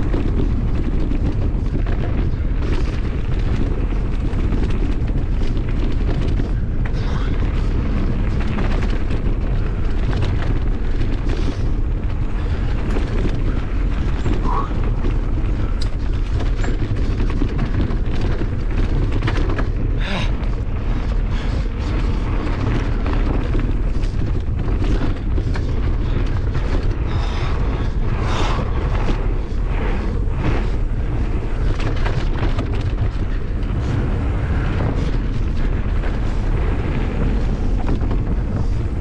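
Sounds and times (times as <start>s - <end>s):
bike rattles and clicks: 0.0s - 39.0s
tyres rolling over rocky trail: 0.0s - 39.0s
wind buffeting microphone: 0.0s - 39.0s.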